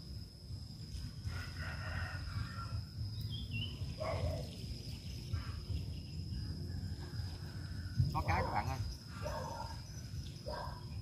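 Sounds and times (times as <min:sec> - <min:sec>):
high insect drone: 0:00.0 - 0:11.0
low wind rumble: 0:00.0 - 0:11.0.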